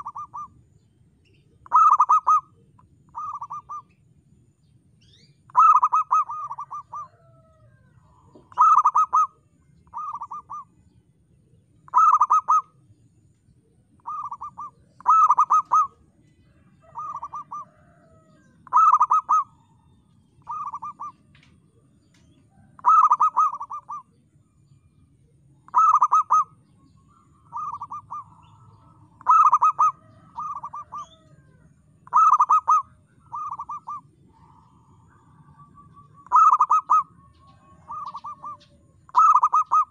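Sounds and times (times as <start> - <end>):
dove cooing: 0.0 - 0.6, 1.3 - 4.0, 5.2 - 10.9, 11.8 - 12.8, 13.9 - 24.2, 25.6 - 39.9.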